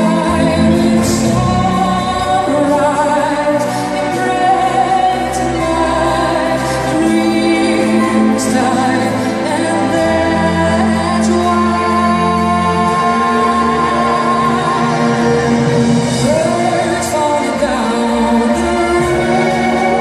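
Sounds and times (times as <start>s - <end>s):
orchestral pop accompaniment: 0.0s - 20.0s.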